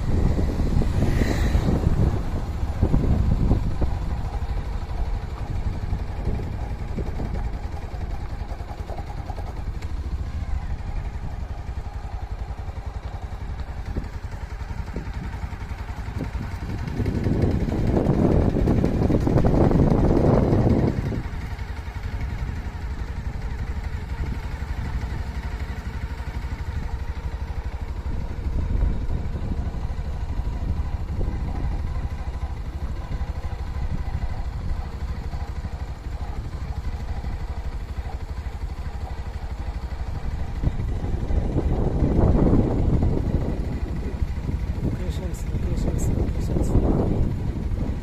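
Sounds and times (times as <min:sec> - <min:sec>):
vehicle engine and road rumble: 0:00.0 - 0:48.0
wind buffeting microphone: 0:00.0 - 0:48.0.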